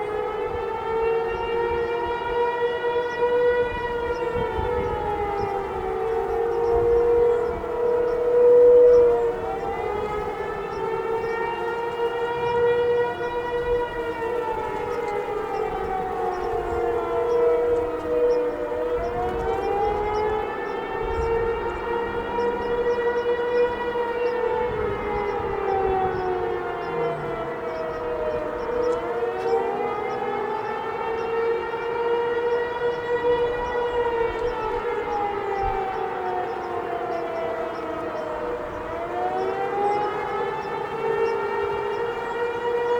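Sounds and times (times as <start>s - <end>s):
warning sirens wailing: 0.0s - 42.9s.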